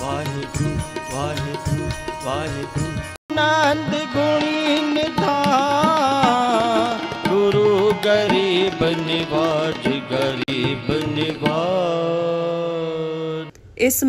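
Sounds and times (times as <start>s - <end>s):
harmonium chords: 0.0s - 13.5s
man singing devotional song: 0.0s - 13.5s
tabla strokes: 0.0s - 13.5s.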